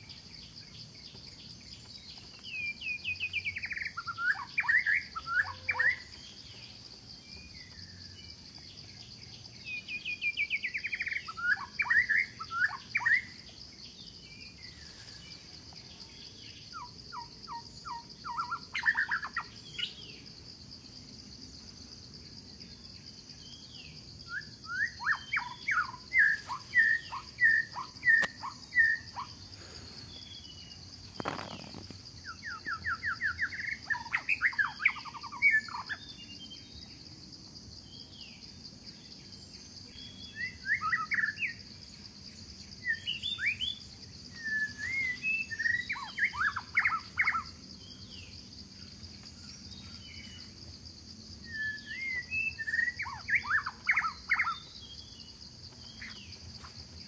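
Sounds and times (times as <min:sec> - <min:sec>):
high insect drone: 0:00.0 - 0:57.0
songbirds chirping: 0:00.0 - 0:57.0.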